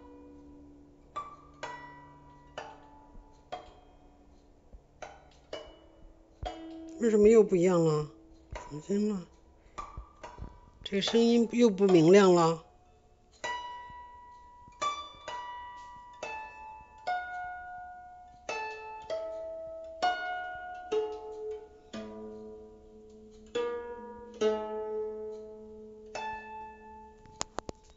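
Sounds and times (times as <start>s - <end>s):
plucked zither notes: 0.0s - 27.9s.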